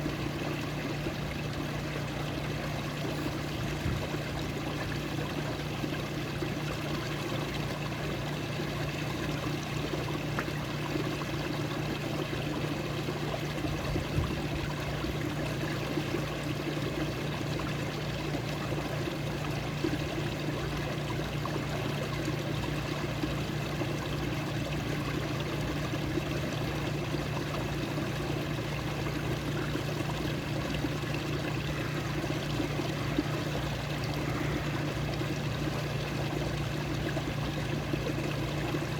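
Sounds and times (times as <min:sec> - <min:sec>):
running water flowing: 0:00.0 - 0:38.9.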